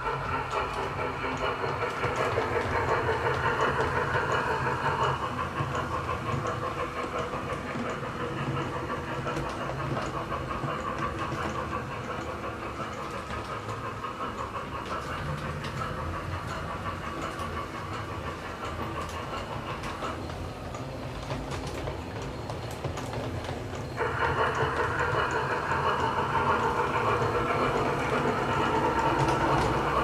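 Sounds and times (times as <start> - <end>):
steam locomotive exhaust and hiss: 0.0 - 30.0.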